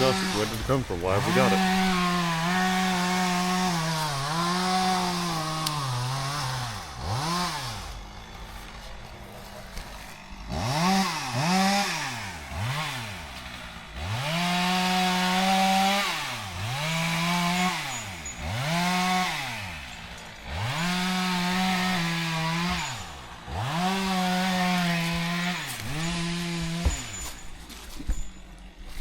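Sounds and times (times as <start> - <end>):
chainsaw revving and idling: 0.0 - 29.0
chainsaw sawing through wood: 0.0 - 29.0.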